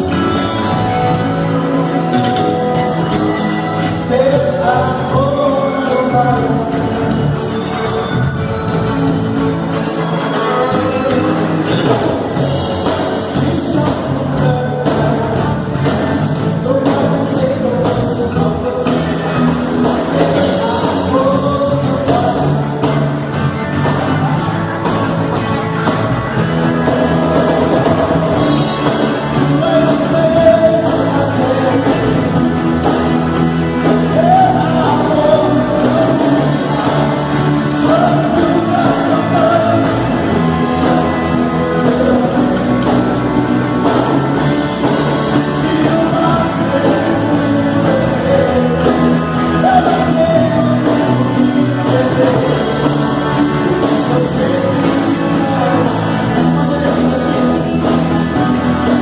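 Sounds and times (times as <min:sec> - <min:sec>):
lead singer singing: 0:00.0 - 0:59.0
rock band playing: 0:00.0 - 0:59.0.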